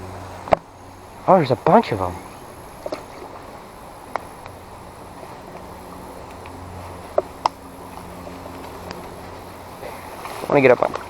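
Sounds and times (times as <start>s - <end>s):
creek rushing: 0.0s - 11.0s.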